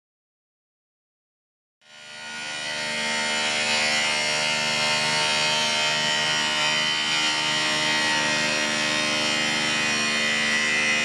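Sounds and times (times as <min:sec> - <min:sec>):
angle grinder grinding steel: 0:01.9 - 0:11.0.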